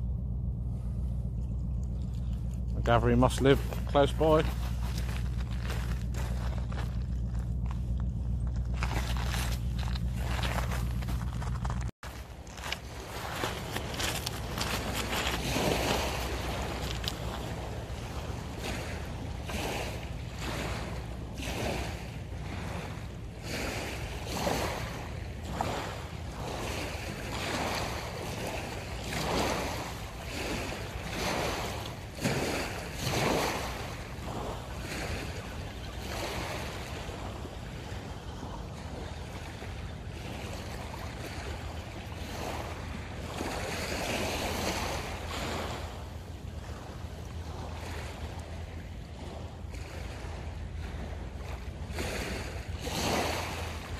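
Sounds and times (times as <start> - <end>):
wind rumble on microphone: 0.0 - 53.9
small waves washing on shore: 1.8 - 53.9.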